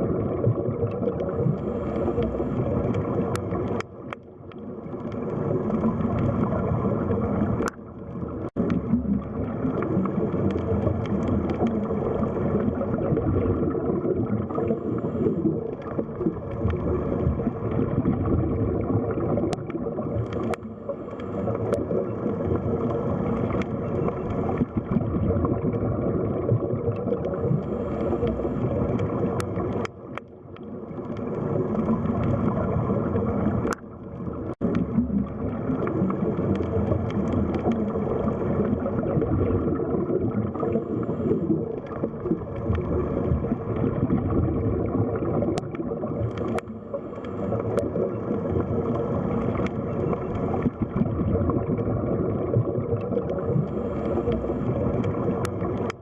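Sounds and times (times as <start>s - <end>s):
underwater rush and gurgle: 0.0s - 56.0s.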